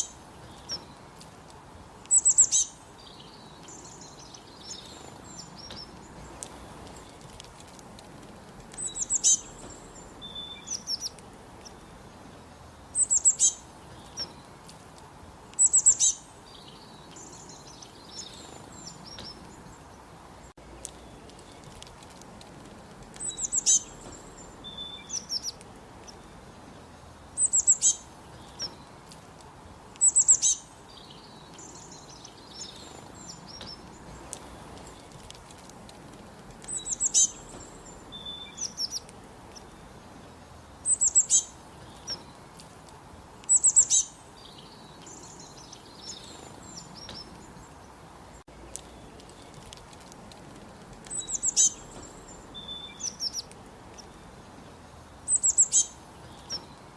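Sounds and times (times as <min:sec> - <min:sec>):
faint bird twittering: 0:00.0 - 0:01.1, 0:02.0 - 0:07.5, 0:08.2 - 0:14.6, 0:15.5 - 0:56.9
background hiss: 0:00.0 - 0:56.9.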